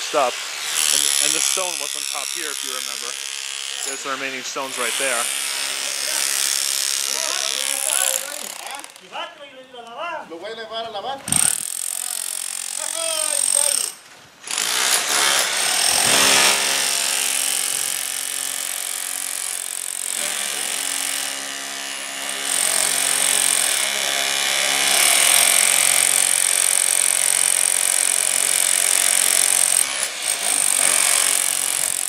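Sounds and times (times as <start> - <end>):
demolition hammer chipping concrete: 0.6 - 9.0, 11.4 - 32.0.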